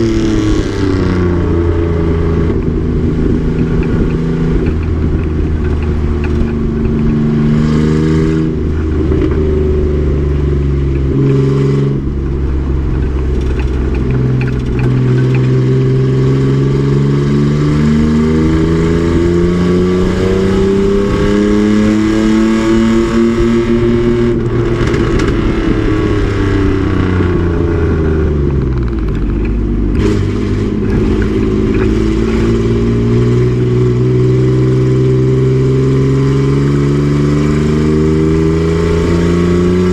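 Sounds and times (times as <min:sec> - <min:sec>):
race truck engine accelerating: 0:00.0 - 0:39.9.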